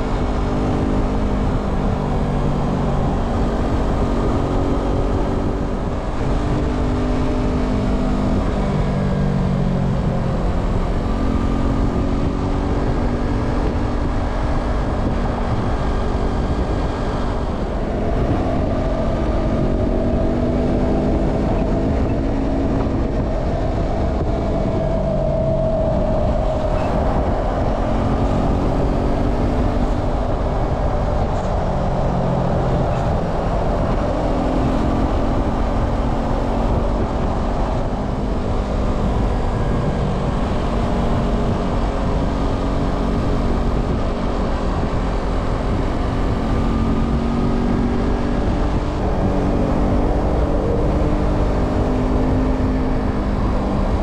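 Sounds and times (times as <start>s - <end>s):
motorcycle engine running: 0.0s - 47.6s
wind and road noise: 0.0s - 54.0s.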